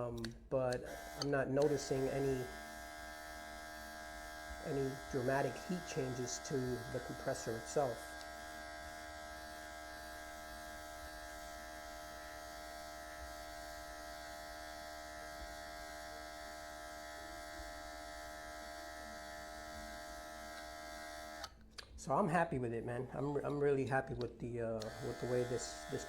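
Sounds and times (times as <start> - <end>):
airbrush compressor motor buzz: 0.7 - 21.6, 24.8 - 26.0.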